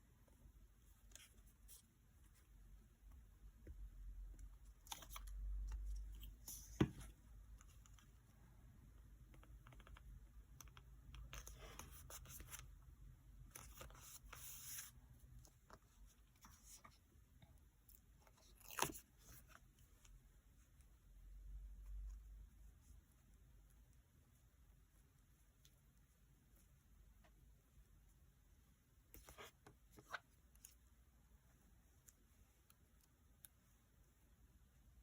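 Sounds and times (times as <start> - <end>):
light clicks and scratches: 3.6 - 8.5, 9.2 - 27.5, 29.0 - 34.2.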